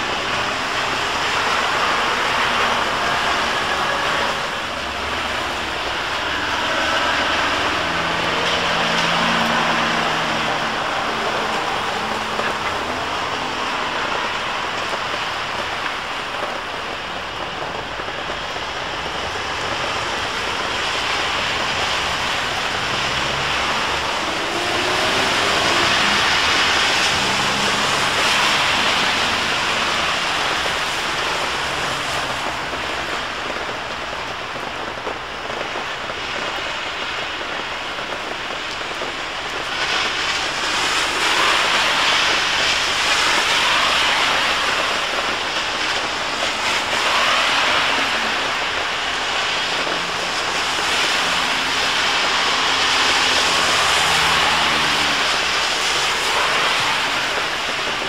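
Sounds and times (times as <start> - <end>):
heavy rain: 0.0 - 58.0
tyres hissing on wet road: 0.0 - 58.0.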